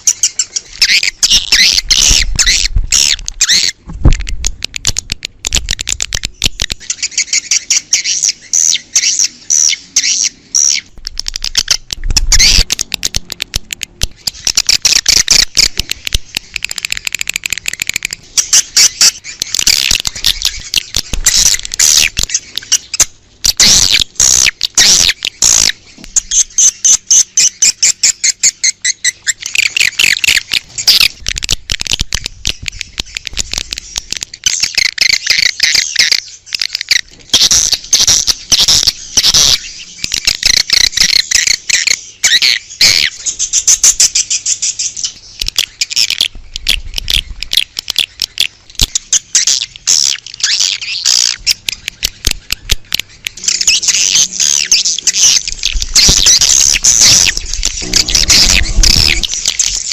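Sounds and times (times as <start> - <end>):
swiftlet calls twittering: 0.0 - 3.8, 14.1 - 59.9.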